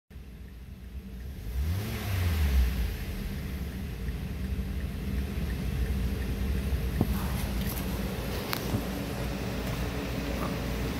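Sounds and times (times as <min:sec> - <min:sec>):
car engine idling: 0:00.1 - 0:10.9.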